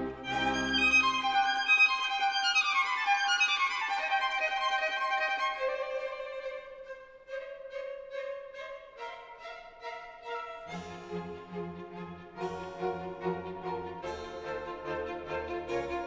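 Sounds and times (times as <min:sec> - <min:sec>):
violin music: 0:00.0 - 0:16.0.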